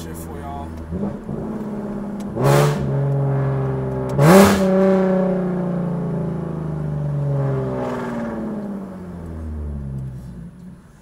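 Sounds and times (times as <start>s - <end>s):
car engine rev and exhaust note: 0.0s - 11.0s.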